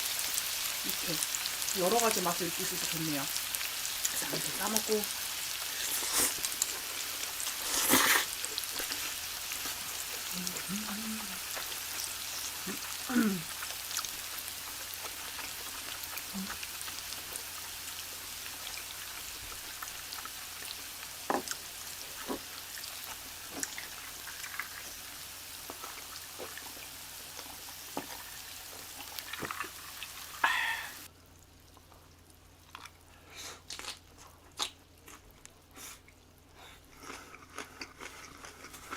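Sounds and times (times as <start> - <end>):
food sizzling in a pan: 0.0 - 31.6.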